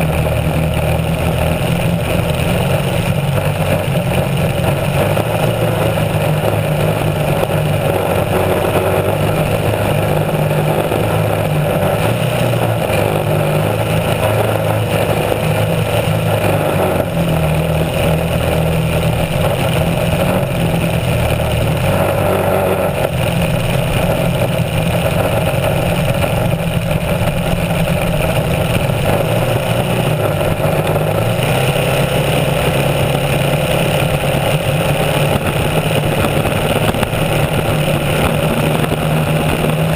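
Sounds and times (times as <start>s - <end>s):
racing boat engine: 0.0s - 39.9s
water rushing and spraying: 4.3s - 39.9s.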